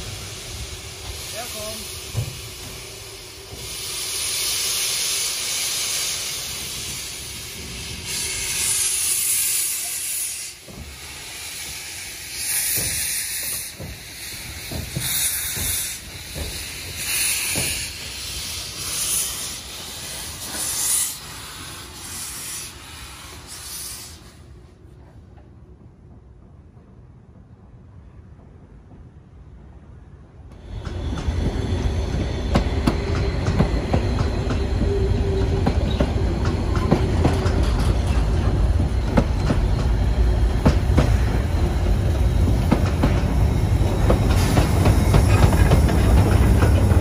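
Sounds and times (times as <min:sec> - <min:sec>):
steam locomotive hissing steam: 0:00.0 - 0:24.9, 0:30.5 - 0:47.0.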